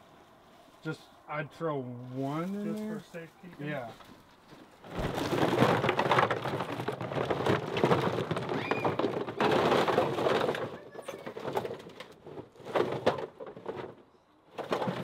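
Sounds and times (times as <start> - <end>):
dry grass rustling and crackling: 0.0 - 1.2, 1.8 - 12.8.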